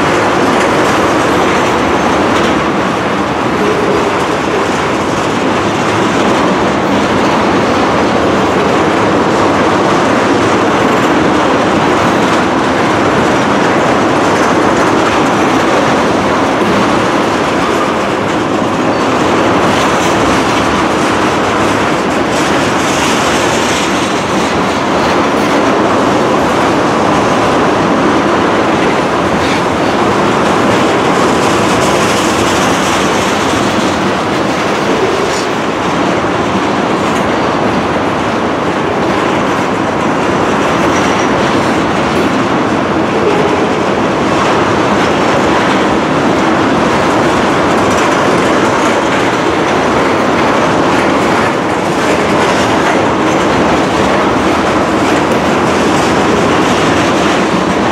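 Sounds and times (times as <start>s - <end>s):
freight train wheels clattering: 0.0s - 57.9s.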